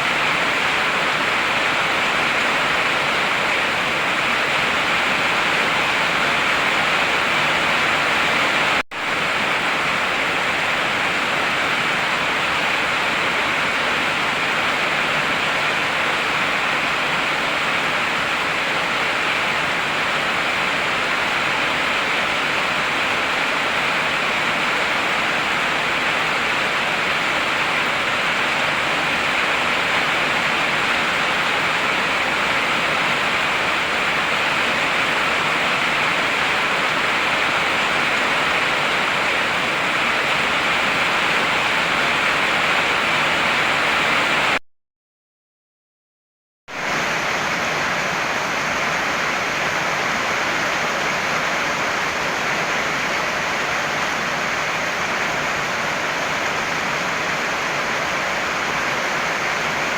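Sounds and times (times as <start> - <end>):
heavy rain falling: 0.0 - 44.6, 46.7 - 59.9.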